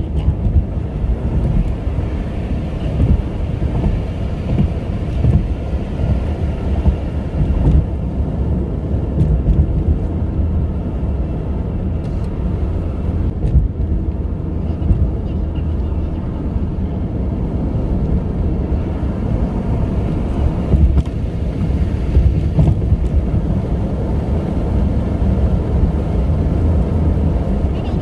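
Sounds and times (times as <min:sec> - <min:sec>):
car road and wind noise: 0:00.0 - 0:28.0.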